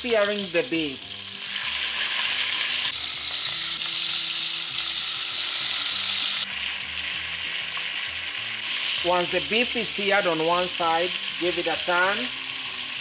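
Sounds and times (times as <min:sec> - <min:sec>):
beef sizzling in oil: 0:00.0 - 0:13.0.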